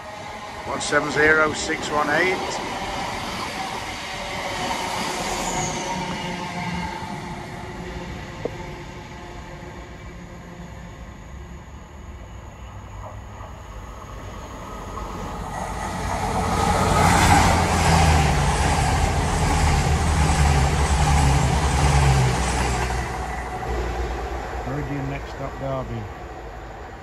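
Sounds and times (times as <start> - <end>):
diesel train passing: 0.0 - 27.0.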